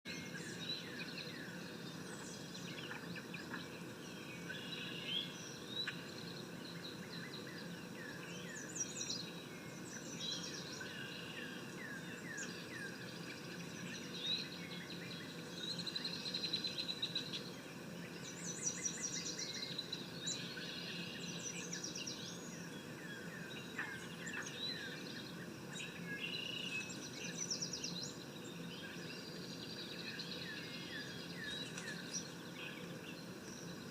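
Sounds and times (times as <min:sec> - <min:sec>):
birds chirping and calling: 0:00.1 - 0:33.9
insects droning: 0:00.1 - 0:33.9.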